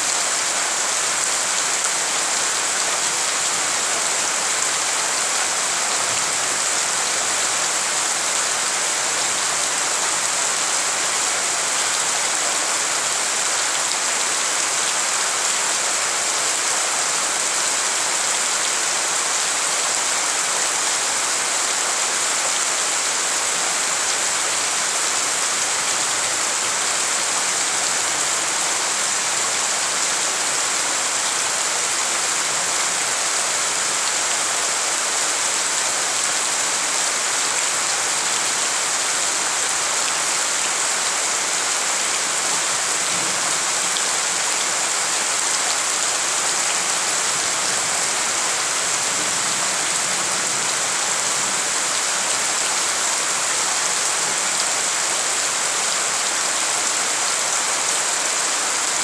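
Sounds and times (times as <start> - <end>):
rain on paving: 0.0 - 59.0.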